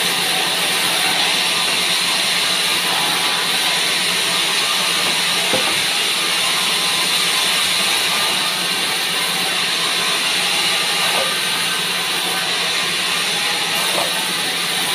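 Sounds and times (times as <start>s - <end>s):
bandsaw cutting boards: 0.0s - 14.9s.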